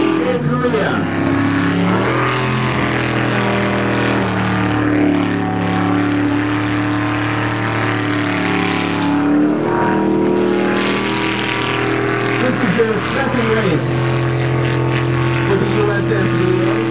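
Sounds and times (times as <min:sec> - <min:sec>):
boat engine at high revs: 0:00.0 - 0:16.9.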